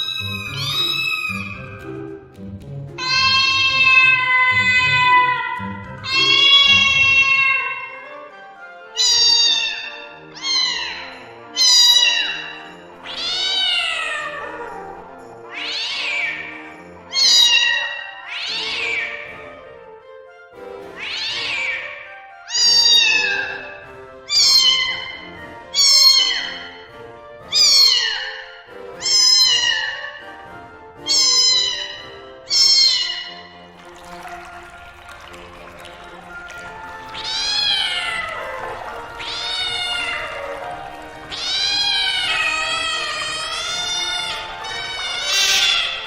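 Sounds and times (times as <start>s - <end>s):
cat meowing: 0.0s - 1.7s, 3.0s - 8.0s, 9.0s - 19.3s, 21.0s - 26.8s, 27.5s - 30.3s, 31.0s - 33.5s, 36.0s - 46.0s.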